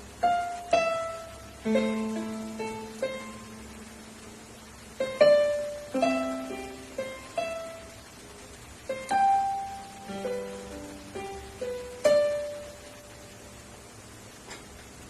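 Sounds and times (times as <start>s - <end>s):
electronic keyboard slow melody: 0.0s - 13.9s.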